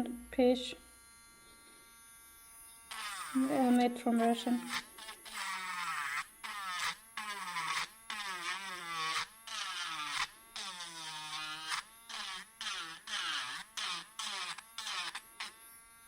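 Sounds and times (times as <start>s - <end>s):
electric sander buzzing: 0.0s - 16.0s.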